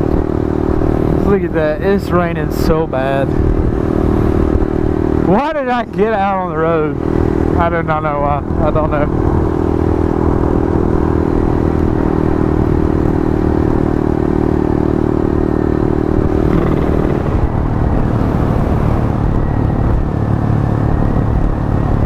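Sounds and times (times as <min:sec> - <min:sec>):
wind noise: 0:00.0 - 0:14.0, 0:15.2 - 0:22.0
motorcycle engine running: 0:00.0 - 0:22.0.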